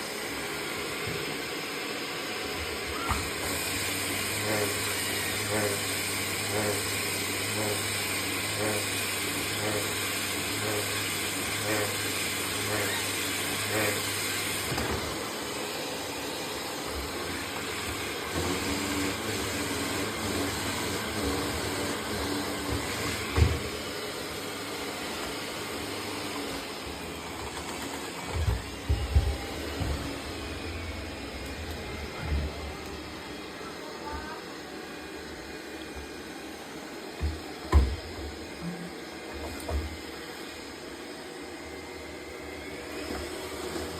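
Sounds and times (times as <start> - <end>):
robot vacuum whirring hiss: 0.0 - 43.9.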